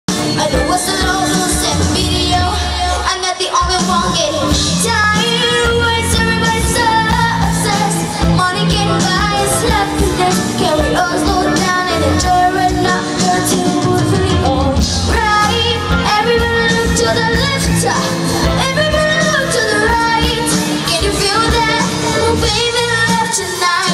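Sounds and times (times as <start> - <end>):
pop-rock band music: 0.1 - 23.9
woman singing: 0.2 - 23.9.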